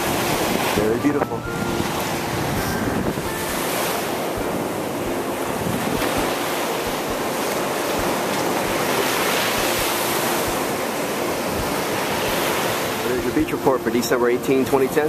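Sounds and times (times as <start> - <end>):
wind buffeting microphone: 0.0 - 13.8
ocean surf breaking on shore: 0.0 - 15.0.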